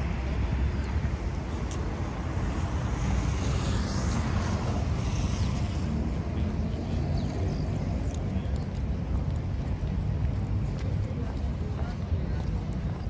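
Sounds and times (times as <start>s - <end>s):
distant traffic: 0.0s - 13.0s
wind rumbling on microphone: 0.0s - 13.0s.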